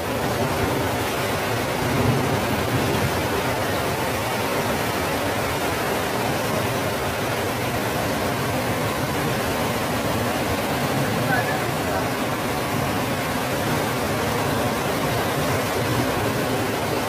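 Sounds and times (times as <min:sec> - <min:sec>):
torrent of water rushing: 0:00.0 - 0:17.0.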